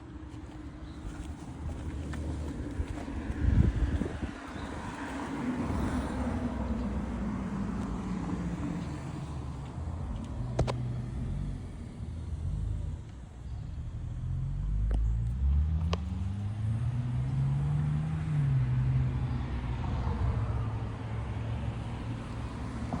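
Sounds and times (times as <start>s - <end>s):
car engine revving and idling: 0.8s - 23.0s.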